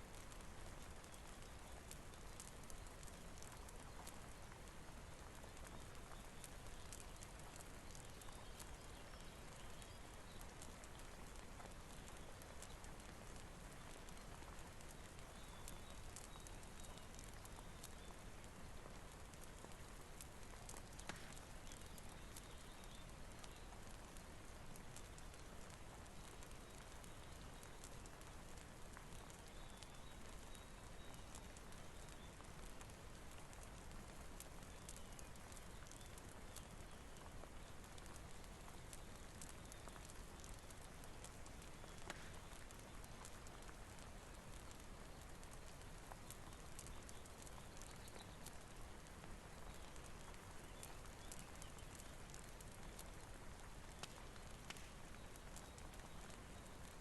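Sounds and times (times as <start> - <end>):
fireplace clicks and crackles: 0.0 - 57.0
rainfall hiss: 0.0 - 57.0.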